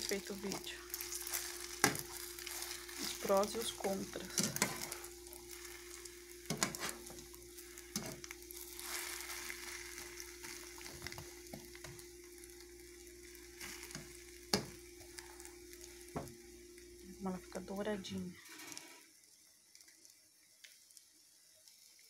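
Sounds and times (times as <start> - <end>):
omelette sizzling in frying pan: 0.0 - 22.0.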